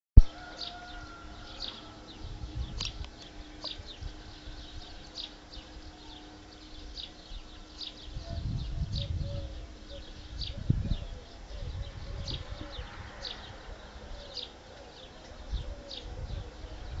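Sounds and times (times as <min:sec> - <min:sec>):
wild birds singing: 0:00.2 - 0:17.0.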